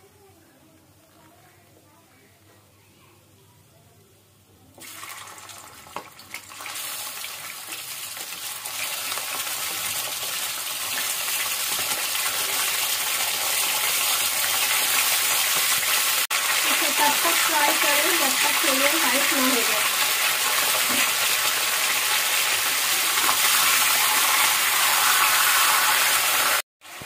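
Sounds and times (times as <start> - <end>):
chicken sizzling in hot oil: 4.8 - 27.0.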